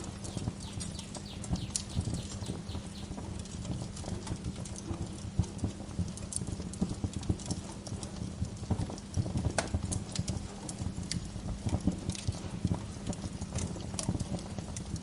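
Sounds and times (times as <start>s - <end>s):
low rumble of burning fire: 0.0s - 15.0s
wood fire snaps and pops: 0.0s - 15.0s.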